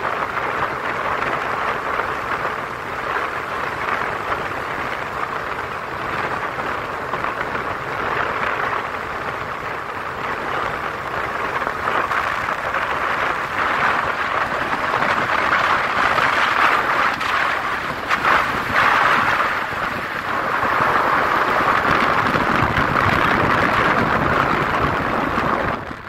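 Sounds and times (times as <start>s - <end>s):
tyre and road noise: 0.0s - 26.0s
wind buffeting microphone: 0.0s - 26.0s.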